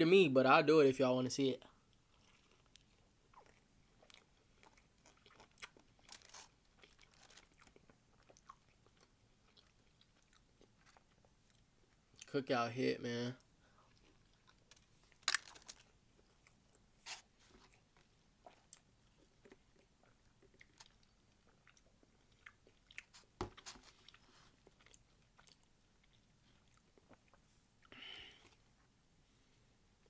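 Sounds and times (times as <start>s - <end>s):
person chewing and crunching: 1.9s - 12.3s, 13.7s - 28.6s.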